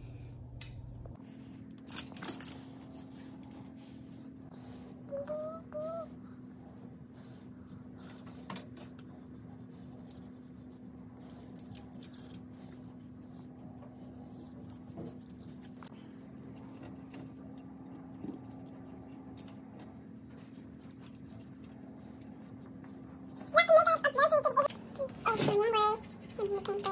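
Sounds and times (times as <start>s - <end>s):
low hum: 0.0s - 26.9s.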